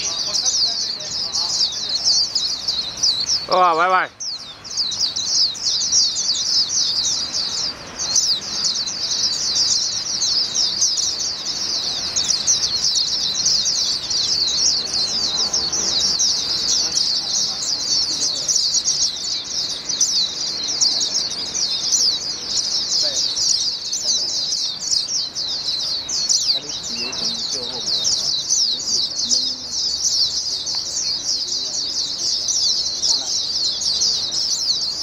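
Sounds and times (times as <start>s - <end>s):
songbird twittering: 0.0s - 35.0s.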